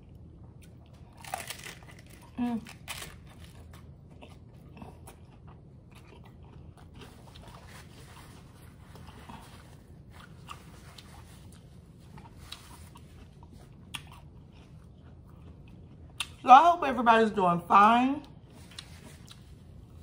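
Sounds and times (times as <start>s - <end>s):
crunchy taco being chewed: 0.0s - 16.5s, 18.2s - 20.0s.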